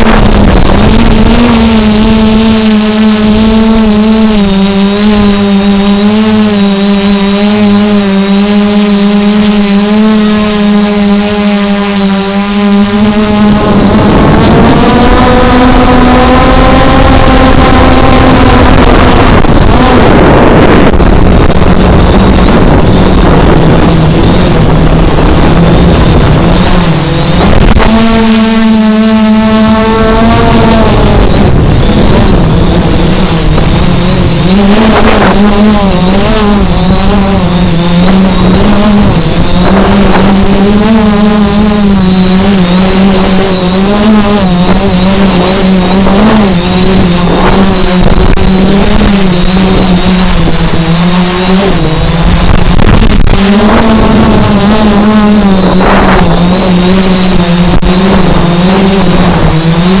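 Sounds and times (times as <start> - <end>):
drone propellers buzzing: 0.0 - 60.0.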